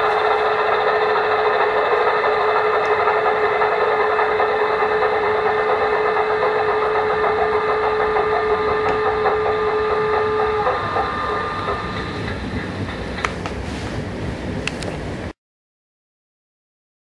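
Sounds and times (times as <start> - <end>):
steady pump hum: 0.0 - 15.3
diesel engine beat slowing: 0.0 - 15.4.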